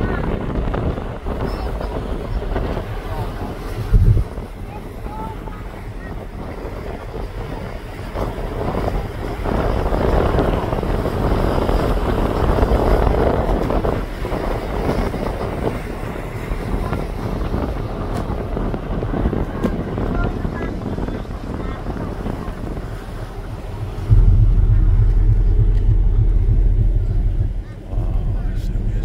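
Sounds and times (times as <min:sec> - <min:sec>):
low rumble from ship: 0:00.0 - 0:29.0
wind buffeting microphone: 0:00.0 - 0:29.0.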